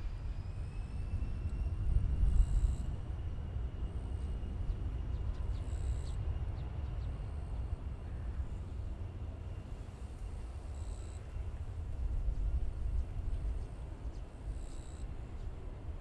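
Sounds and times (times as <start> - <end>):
distant airliner engines rumbling: 0.0 - 16.0
high engine whine: 0.0 - 16.0.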